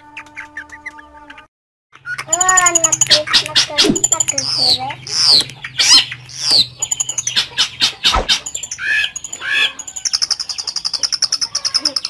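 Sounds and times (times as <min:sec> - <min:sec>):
shrike singing: 0:02.0 - 0:12.0.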